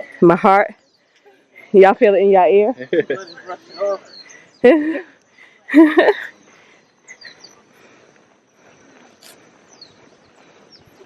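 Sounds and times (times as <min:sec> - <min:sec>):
steady high insect tone: 0:00.0 - 0:11.0.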